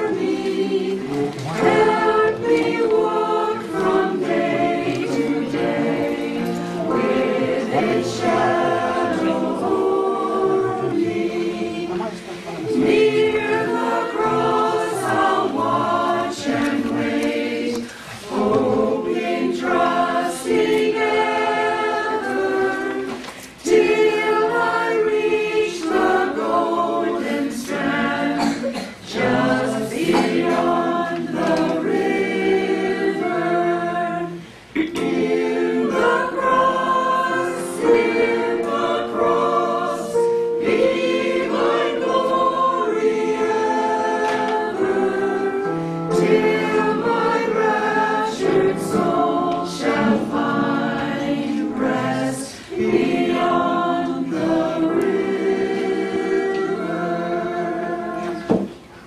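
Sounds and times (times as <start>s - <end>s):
mixed choir singing a hymn: 0.0s - 59.0s.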